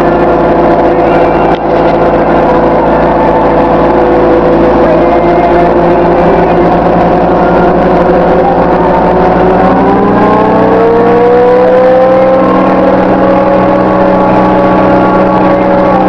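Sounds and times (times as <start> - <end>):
loader diesel engine running: 0.0 - 16.0.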